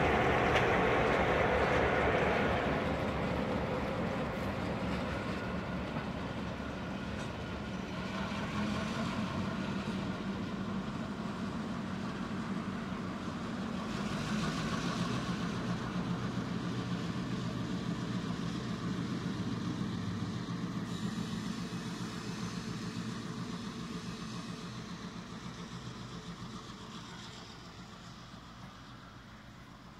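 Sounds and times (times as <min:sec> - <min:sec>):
diesel locomotives pulling away: 0:00.0 - 0:29.9.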